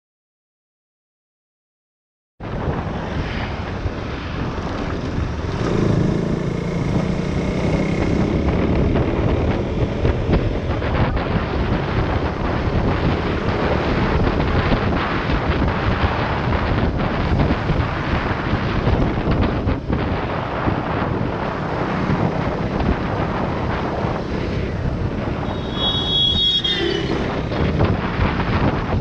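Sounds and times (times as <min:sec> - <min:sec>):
wind rushing over microphone: 0:02.4 - 0:29.0
motorcycle engine: 0:04.5 - 0:19.7, 0:20.4 - 0:29.0.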